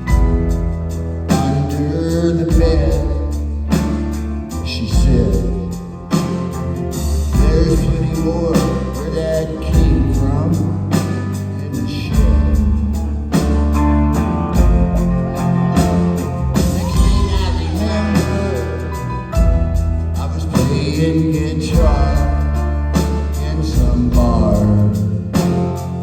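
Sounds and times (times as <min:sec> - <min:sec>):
live rock band playing: 0:00.0 - 0:26.0
person singing: 0:01.3 - 0:03.8, 0:04.5 - 0:05.9, 0:07.2 - 0:13.8, 0:14.5 - 0:19.5, 0:20.1 - 0:26.0.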